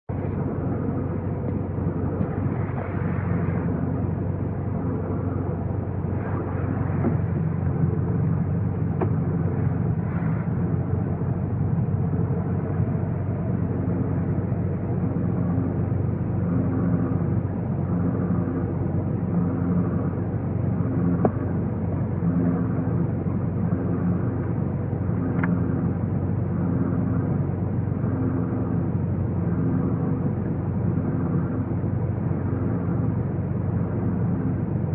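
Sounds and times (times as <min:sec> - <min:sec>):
low vehicle drone: 0:00.0 - 0:34.9.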